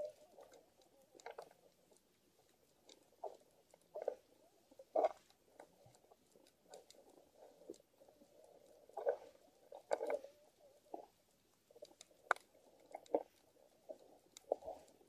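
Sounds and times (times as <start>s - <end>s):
underwater crackling clicks: 0.0s - 15.0s.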